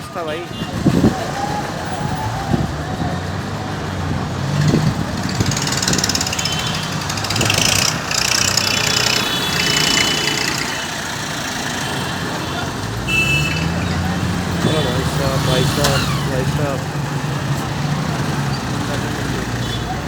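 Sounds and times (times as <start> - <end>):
tractor diesel engines running: 0.0 - 20.0.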